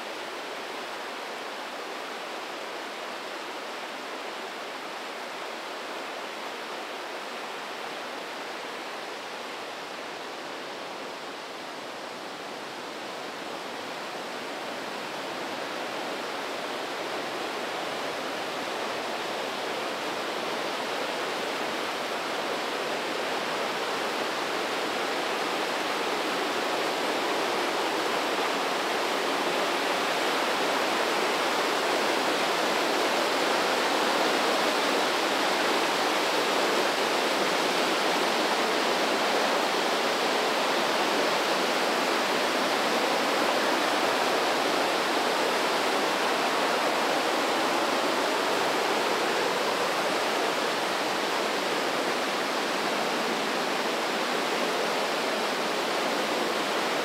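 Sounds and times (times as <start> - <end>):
river rushing through gorge: 0.0 - 57.0.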